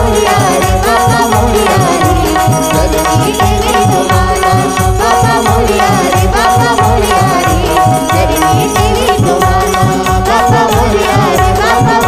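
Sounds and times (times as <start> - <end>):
banjo melody: 0.0 - 12.0
harmonium: 0.0 - 12.0
tabla with sliding bass strokes: 0.0 - 12.0.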